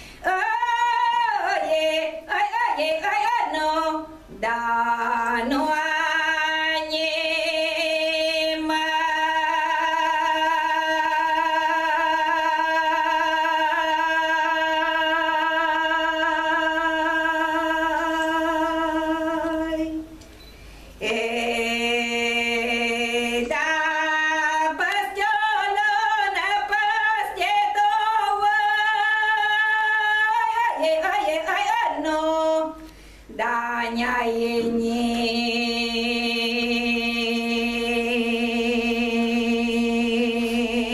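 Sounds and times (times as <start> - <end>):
woman singing unaccompanied: 0.2 - 20.2, 21.0 - 40.9.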